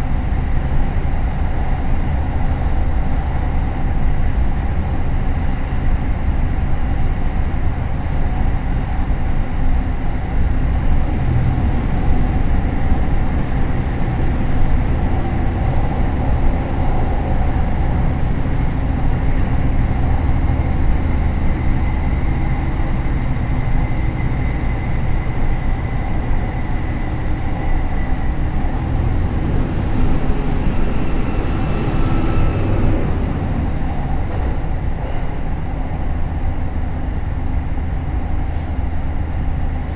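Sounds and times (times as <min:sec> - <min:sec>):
diesel railcar engine: 0:00.0 - 0:39.9
faint gear whine: 0:00.0 - 0:39.9
wheels rumbling on rail: 0:00.0 - 0:39.9.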